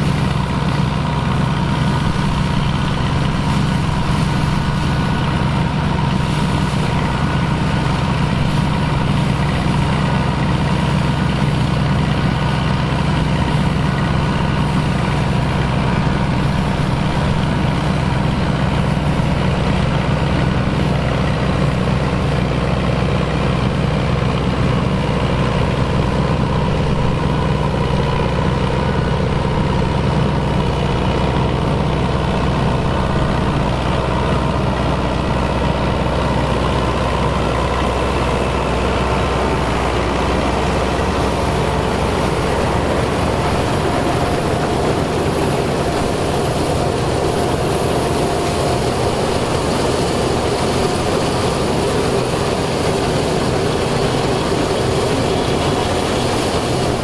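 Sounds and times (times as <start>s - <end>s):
farm machinery engine droning: 0.0s - 57.0s.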